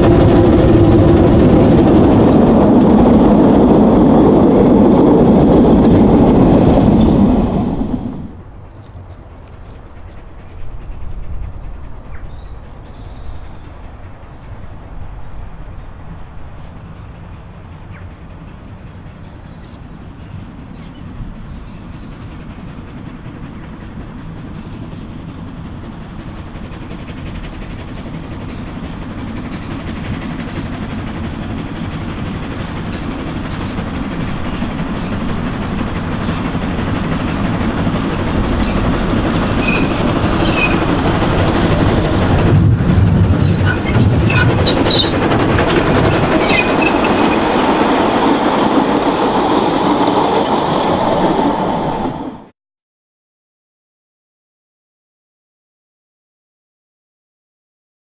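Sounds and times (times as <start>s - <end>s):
steam locomotive passing: 0.0s - 52.5s.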